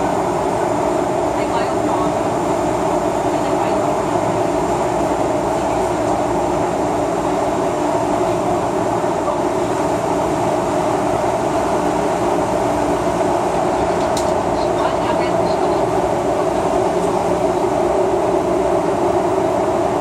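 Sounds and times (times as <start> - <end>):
air rushing in tunnel: 0.0 - 20.0
train wheels on rails: 0.0 - 20.0.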